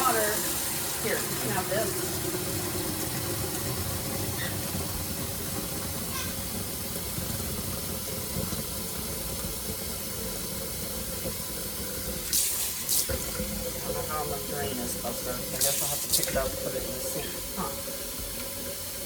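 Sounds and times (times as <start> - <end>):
tap water running: 0.0 - 19.0.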